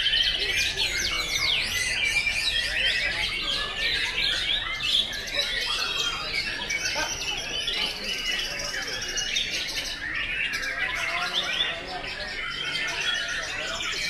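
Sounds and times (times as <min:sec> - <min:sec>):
birds singing whistles and trills: 0:00.0 - 0:14.0.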